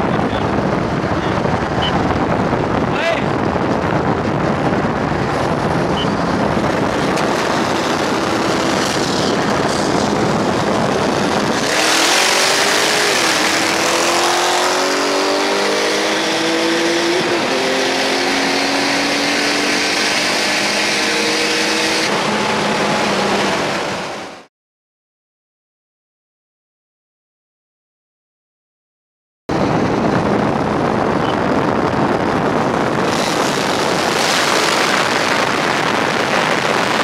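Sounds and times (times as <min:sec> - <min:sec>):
car engine revving: 0:00.0 - 0:24.5, 0:31.8 - 0:37.0
wind rush in car cabin: 0:00.0 - 0:24.5, 0:29.5 - 0:37.0.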